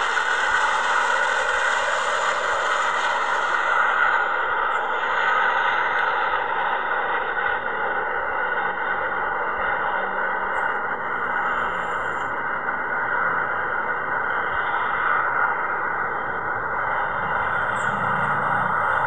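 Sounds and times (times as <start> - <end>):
airliner jet engines: 0.0 - 19.0.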